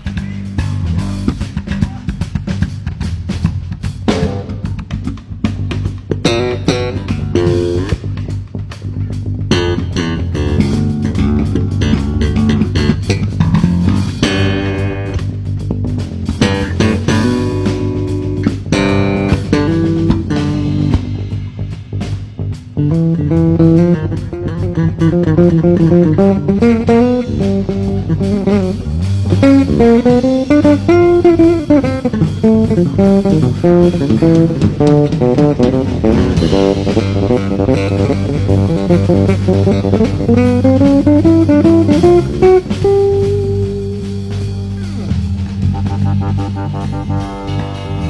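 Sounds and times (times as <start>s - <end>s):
electric bass guitar solo: 0.0s - 48.0s.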